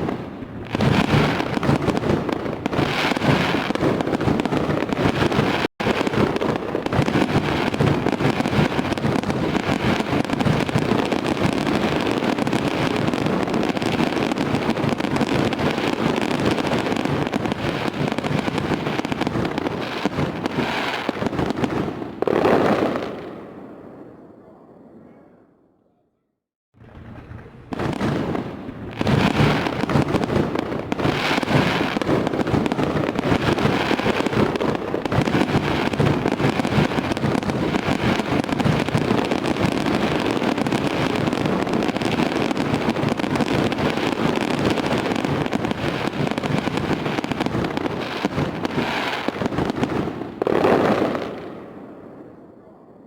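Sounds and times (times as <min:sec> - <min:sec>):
fireworks bangs and crackling: 0:00.0 - 0:24.3, 0:26.8 - 0:53.0.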